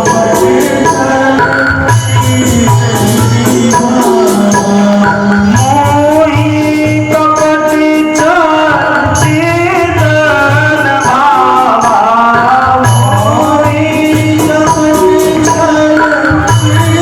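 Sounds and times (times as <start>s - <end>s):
hand drum beat: 0.0s - 17.0s
person singing ornamented notes: 0.0s - 17.0s
sustained instrumental tones: 0.0s - 17.0s.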